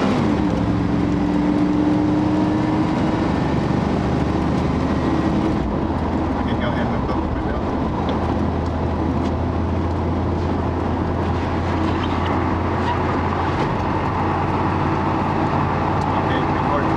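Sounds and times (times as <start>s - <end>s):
engine exhaust hum: 0.0s - 16.9s.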